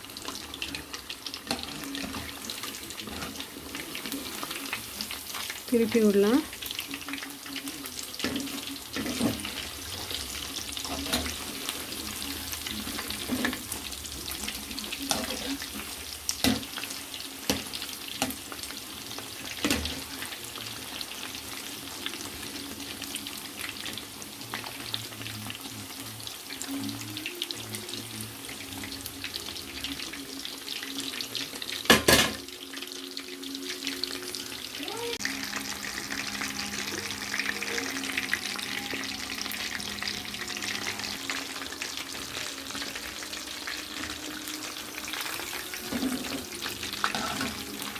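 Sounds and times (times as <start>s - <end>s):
meat deep-frying in oil: 0.0s - 47.9s.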